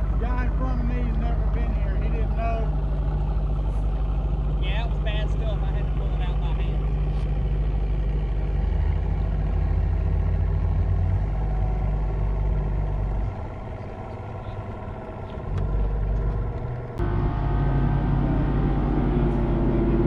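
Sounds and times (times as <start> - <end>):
outboard motor drone: 0.0 - 20.0.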